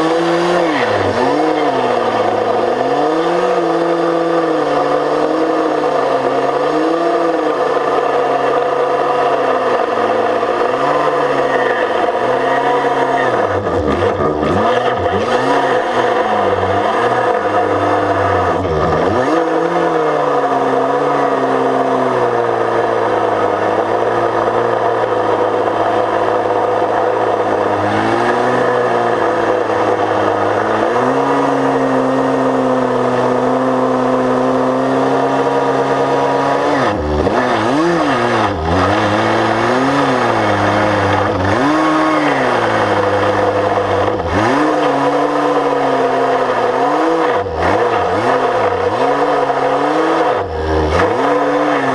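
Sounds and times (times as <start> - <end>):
chainsaw engine running: 0.0 - 51.9.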